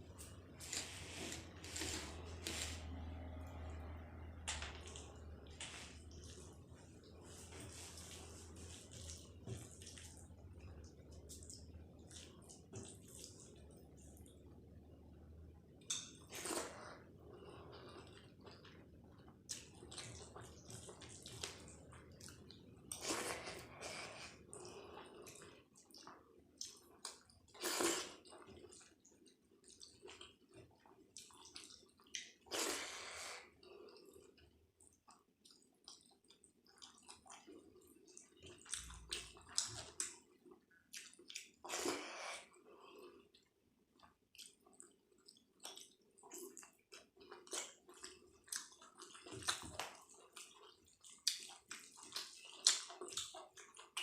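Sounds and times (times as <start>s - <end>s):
wet chewing and squishing: 4.8s - 14.6s, 17.8s - 32.7s, 33.6s - 54.0s.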